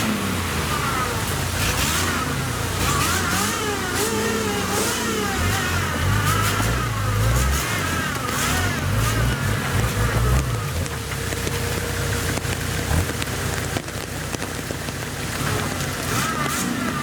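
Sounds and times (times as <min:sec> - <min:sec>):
engine revving: 0:00.0 - 0:17.0
rain hissing: 0:00.0 - 0:17.0.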